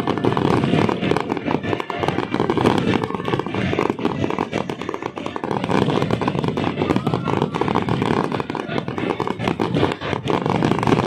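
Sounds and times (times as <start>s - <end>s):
fireworks bursting and crackling: 0.0s - 11.0s.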